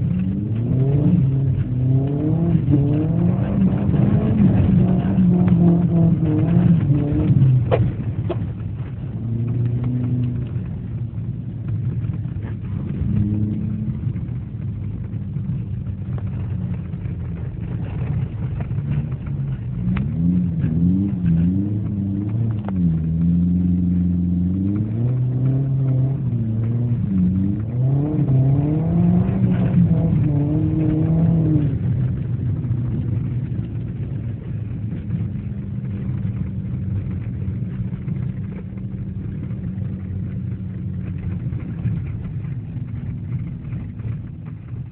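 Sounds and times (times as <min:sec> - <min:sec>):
car engine revving while driving: 0:00.0 - 0:44.9.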